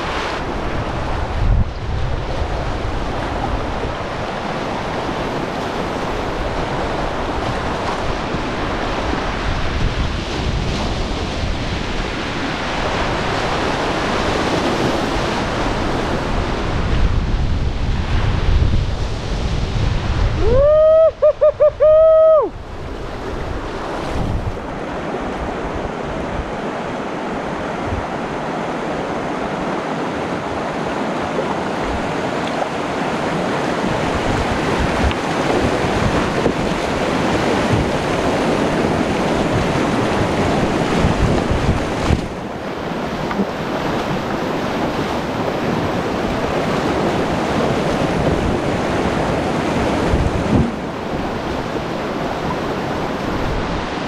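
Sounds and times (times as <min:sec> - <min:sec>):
whitewater rushing: 0:00.0 - 0:17.1, 0:18.0 - 0:54.0
wind buffeting microphone: 0:00.0 - 0:28.5, 0:29.1 - 0:54.0.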